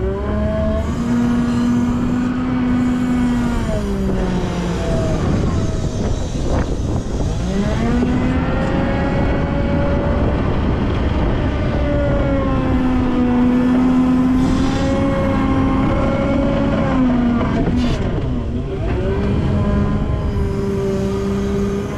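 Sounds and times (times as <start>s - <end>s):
wheel loader diesel engine revving: 0.0s - 21.9s.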